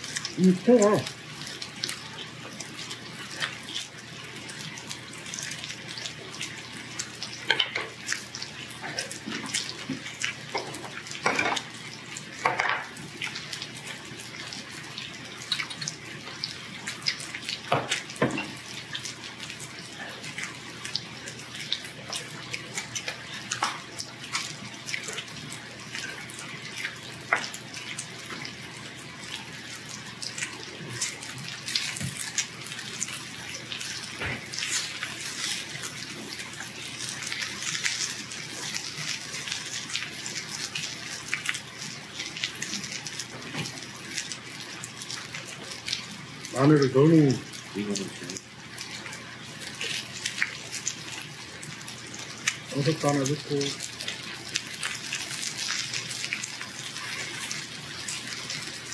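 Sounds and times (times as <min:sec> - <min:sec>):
pork sizzling on grill plate: 0:00.0 - 0:58.9.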